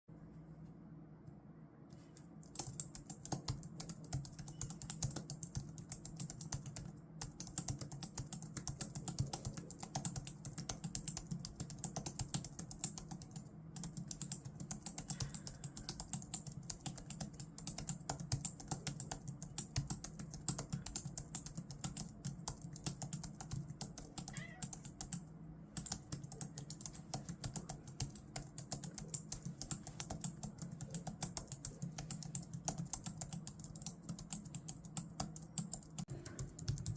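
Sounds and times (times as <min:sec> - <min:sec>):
keyboard keys clicking: 0:01.9 - 0:25.2, 0:25.8 - 0:36.9.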